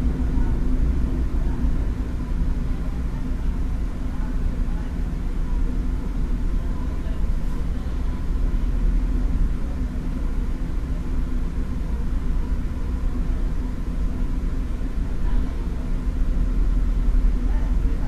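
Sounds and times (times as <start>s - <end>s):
diesel railcar rumbling: 0.0s - 18.0s.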